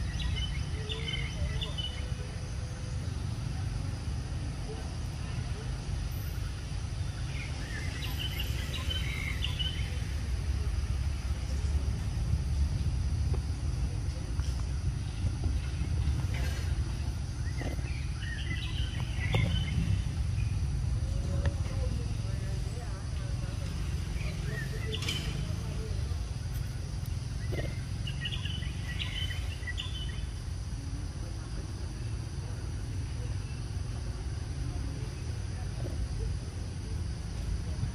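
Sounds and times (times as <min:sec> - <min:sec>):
steady low rumble: 0:00.0 - 0:37.9.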